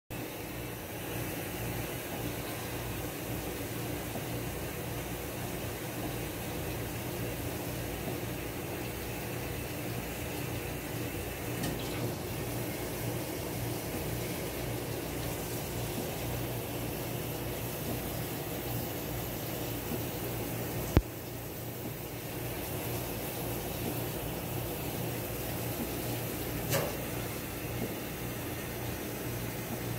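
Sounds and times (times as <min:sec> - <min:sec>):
machinery hum and hiss: 0:00.1 - 0:29.9.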